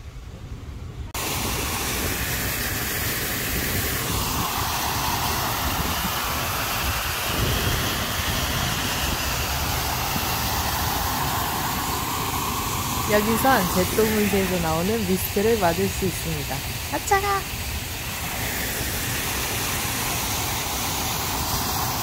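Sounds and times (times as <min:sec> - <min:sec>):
outdoor background noise: 0:00.0 - 0:22.0
high-pressure water jet hissing: 0:01.2 - 0:22.0.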